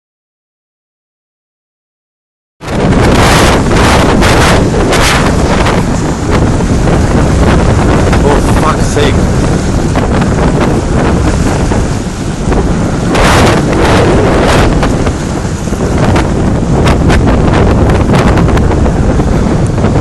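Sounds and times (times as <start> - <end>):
wind buffeting microphone: 2.6 - 20.0.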